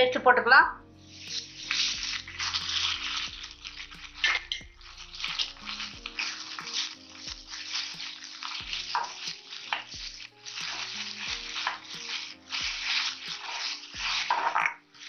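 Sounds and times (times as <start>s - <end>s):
faint music with steady beat: 0.0s - 15.0s
food sizzling in hot oil: 0.8s - 15.0s
metal spoon stirring: 0.9s - 15.0s.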